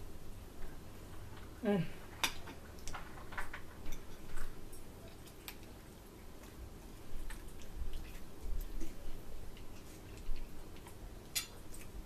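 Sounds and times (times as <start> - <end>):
low steady hum: 0.0 - 12.0
chewing and mouth sounds: 2.3 - 12.0.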